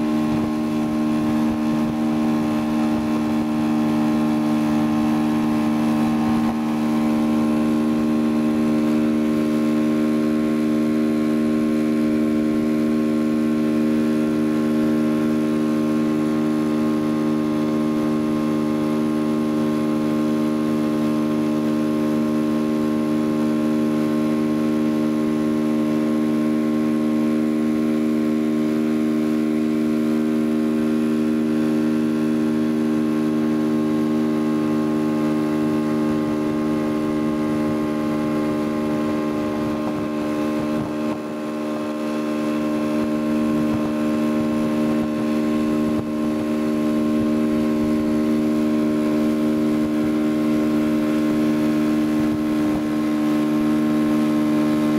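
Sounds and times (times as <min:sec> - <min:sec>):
motorboat engine droning: 0:00.0 - 0:54.9
water rushing: 0:00.0 - 0:54.9.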